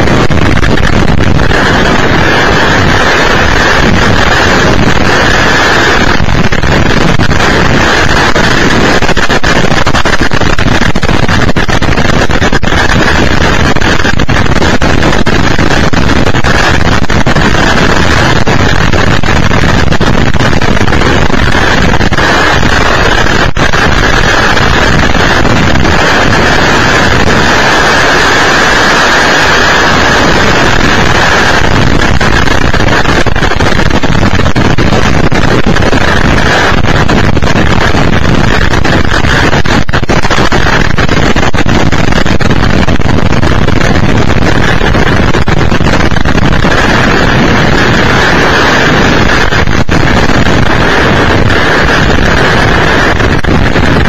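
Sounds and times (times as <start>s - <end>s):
violent storm wind on microphone: 0.0s - 54.0s.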